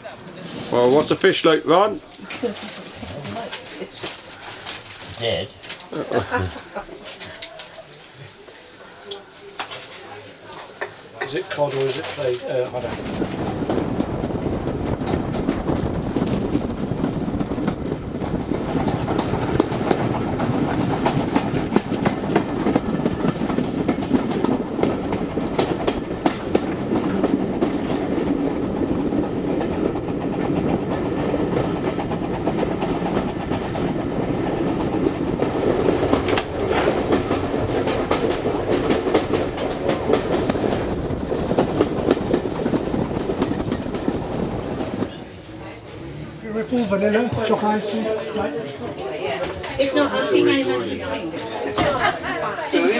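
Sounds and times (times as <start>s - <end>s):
train carriages rumbling: 0.0s - 52.9s
wheels clicking over rail joints: 0.1s - 52.9s.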